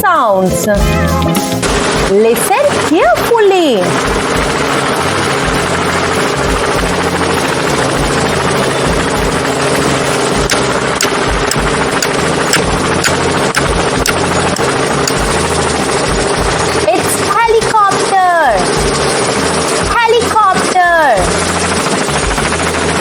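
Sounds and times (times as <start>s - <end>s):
helicopter engine: 0.9s - 23.0s
rotor blades beating: 1.0s - 23.0s.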